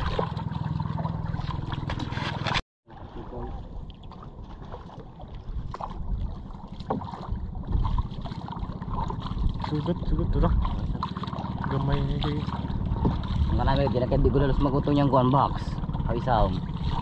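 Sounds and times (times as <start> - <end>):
small boat motor running: 0.0 - 17.0.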